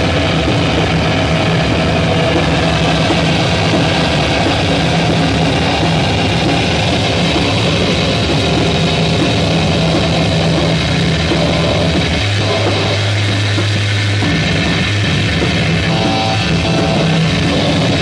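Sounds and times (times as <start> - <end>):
distorted guitar amplifier drone: 0.0 - 18.0
low amplifier hum: 0.0 - 18.0.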